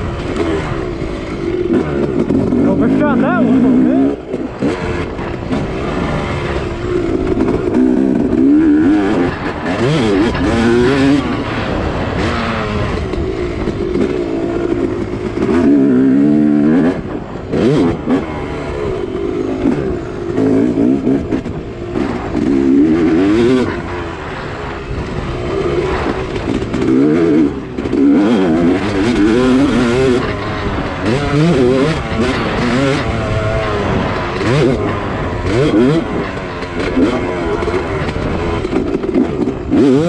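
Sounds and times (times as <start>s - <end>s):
two-stroke motocross engine revving: 0.0s - 40.0s.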